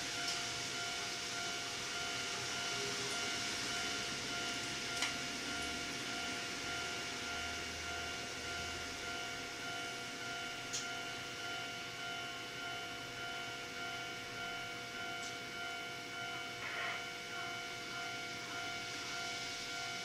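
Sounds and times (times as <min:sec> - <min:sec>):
train equipment hum and whine: 0:00.0 - 0:20.0.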